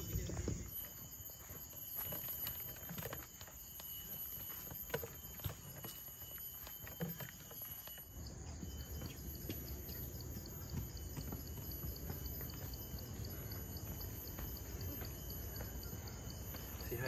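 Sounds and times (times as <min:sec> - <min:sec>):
high insect chirp: 0:00.0 - 0:17.0
steady insect drone: 0:00.0 - 0:17.0.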